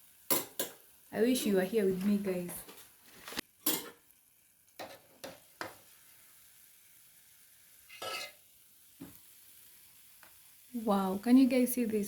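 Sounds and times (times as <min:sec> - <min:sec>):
utensil stirring in a pan: 0:00.0 - 0:11.1
food deep-frying in hot oil: 0:00.0 - 0:12.0.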